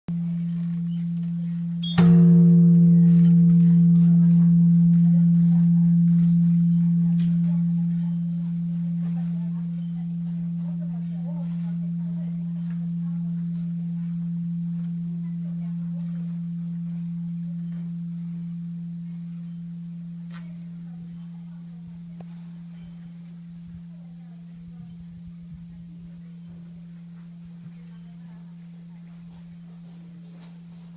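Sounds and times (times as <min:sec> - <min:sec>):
deep bell hum: 0:00.1 - 0:30.9
large temple bell struck: 0:00.1 - 0:30.9.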